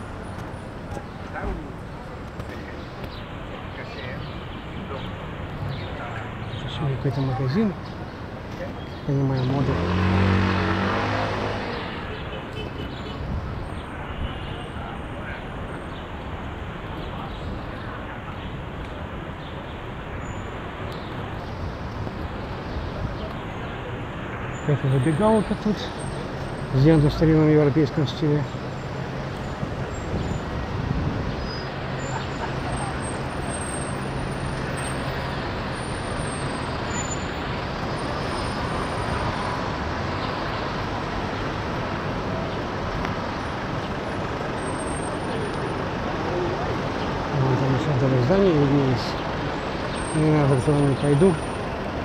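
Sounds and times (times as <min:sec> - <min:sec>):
city street traffic: 0:00.0 - 0:52.0
cars driving past: 0:04.6 - 0:17.2, 0:20.4 - 0:52.0.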